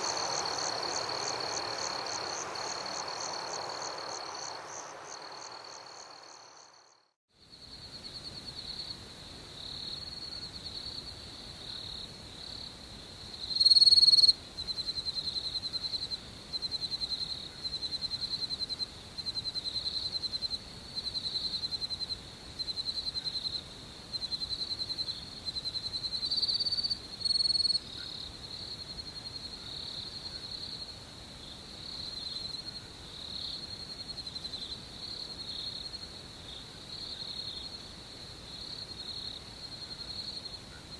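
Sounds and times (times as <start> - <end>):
crickets trilling: 0.0 - 12.7, 13.4 - 40.9
pulsed cricket chirp: 0.0 - 40.9.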